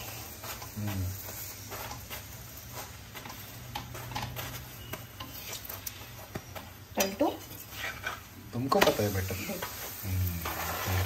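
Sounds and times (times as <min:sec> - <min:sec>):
metal spoon scraping a pan: 0:00.0 - 0:06.4, 0:07.0 - 0:11.0
flatbread sizzling in a pan: 0:00.0 - 0:11.0.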